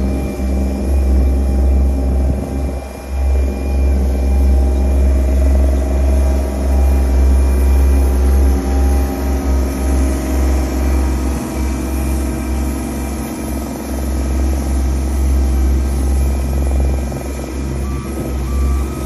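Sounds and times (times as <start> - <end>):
roller engine rumbling: 0.0 - 19.0.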